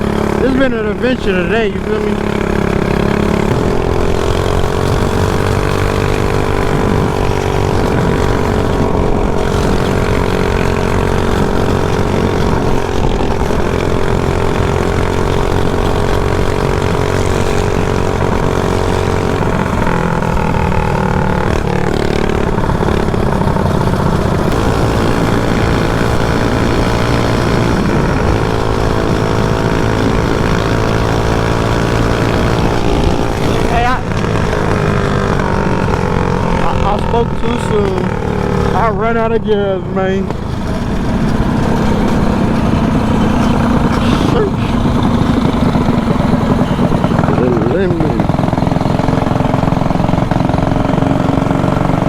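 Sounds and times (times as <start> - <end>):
small engine running: 0.0 - 52.0.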